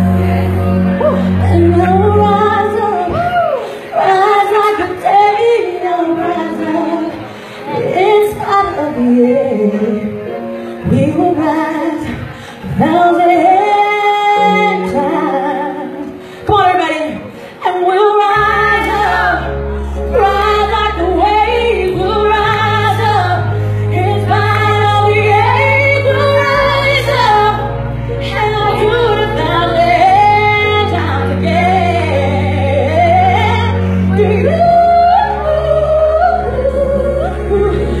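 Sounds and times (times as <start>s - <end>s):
sustained bass notes: 0.0s - 38.0s
woman singing: 0.0s - 38.0s.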